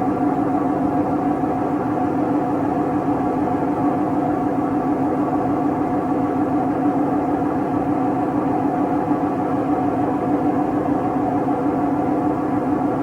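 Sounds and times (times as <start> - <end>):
washing machine droning: 0.0 - 13.0.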